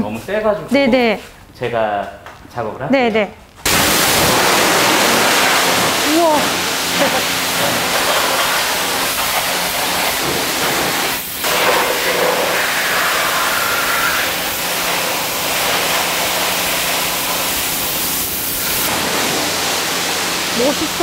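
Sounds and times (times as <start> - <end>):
pressure washer spraying water: 3.7 - 21.0.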